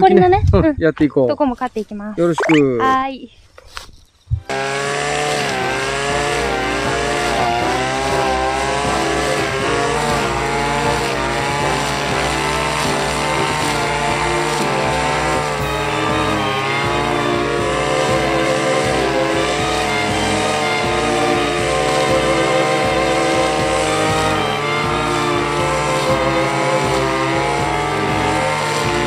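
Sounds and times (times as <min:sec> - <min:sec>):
brush cutter engine cutting weeds: 0:04.5 - 0:29.0.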